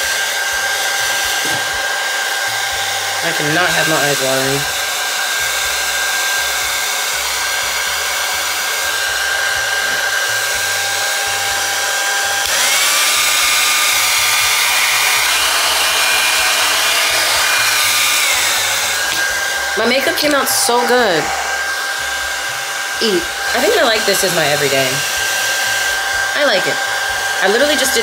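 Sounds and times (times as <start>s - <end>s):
hair dryer blowing with high whine: 0.0s - 28.0s.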